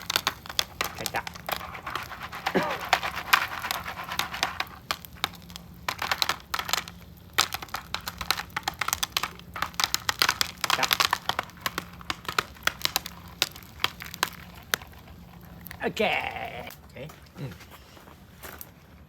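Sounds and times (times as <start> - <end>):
popcorn popping in a pan: 0.0 - 17.1.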